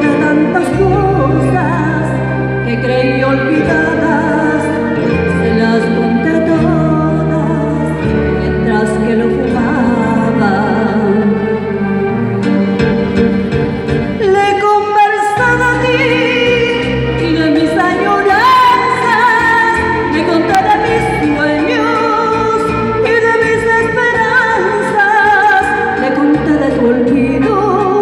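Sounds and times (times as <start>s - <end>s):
woman singing with vibrato: 0.0s - 12.1s, 14.2s - 28.0s
instrumental accompaniment: 0.0s - 28.0s.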